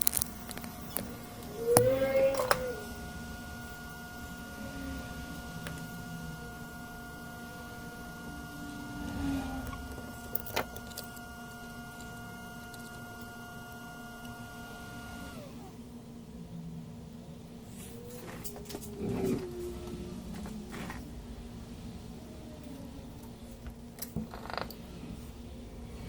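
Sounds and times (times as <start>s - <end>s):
hot-air blower whine: 0.0s - 26.0s.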